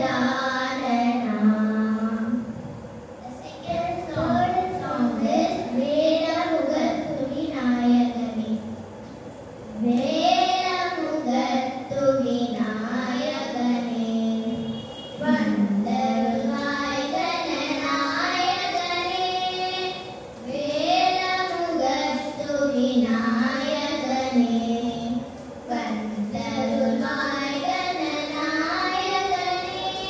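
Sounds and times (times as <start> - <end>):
girls singing classical vocal piece: 0.0 - 8.9, 9.6 - 30.0.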